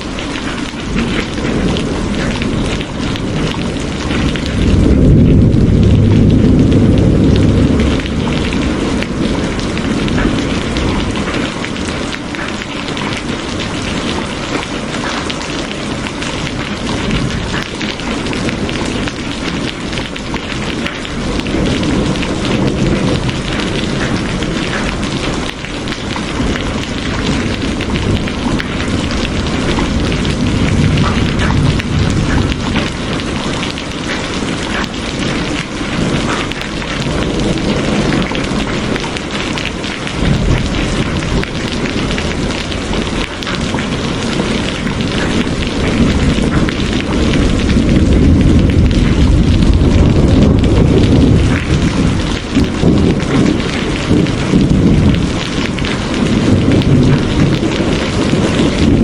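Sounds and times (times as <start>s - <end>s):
heavy rainfall: 0.0s - 59.0s
low rolling thunder: 0.0s - 59.0s.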